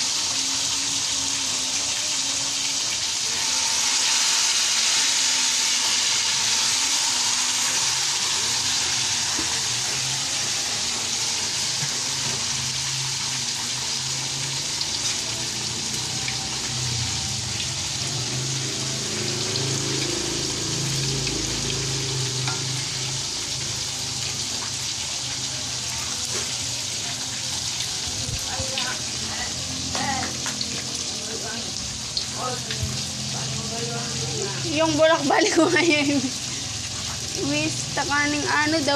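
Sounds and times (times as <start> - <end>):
food deep-frying in oil: 0.0 - 38.9.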